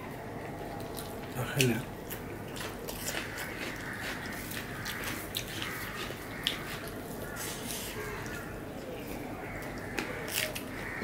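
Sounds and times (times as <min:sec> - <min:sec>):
chewing: 0:00.4 - 0:11.0.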